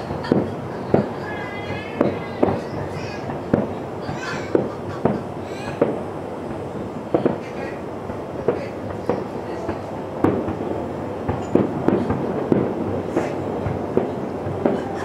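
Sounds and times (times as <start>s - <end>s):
continuous rumble: 0.0s - 15.0s
distant fireworks booming: 0.0s - 15.0s.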